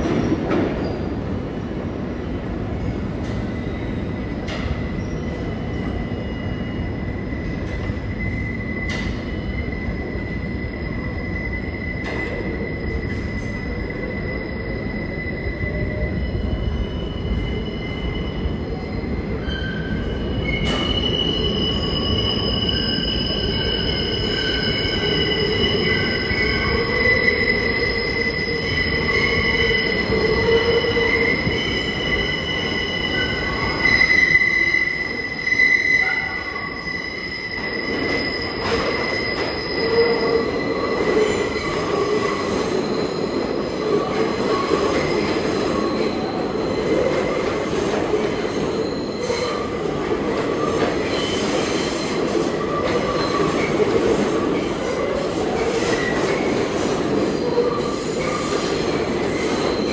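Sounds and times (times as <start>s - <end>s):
train wheels squealing on rails: 0.0s - 59.9s.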